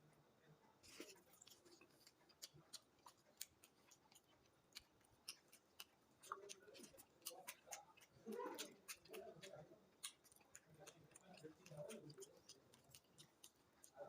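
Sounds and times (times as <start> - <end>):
chewing and lip smacks: 0.8 - 14.0.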